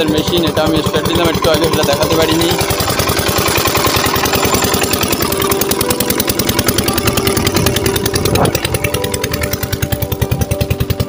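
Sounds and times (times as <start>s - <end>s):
water pump engine knocking: 0.0s - 11.0s.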